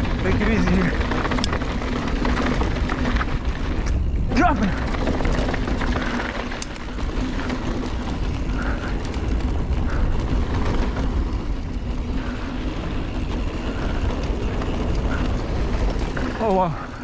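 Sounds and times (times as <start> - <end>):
bike clicks and rattles: 0.0 - 17.0
tyres on loose dirt: 0.0 - 17.0.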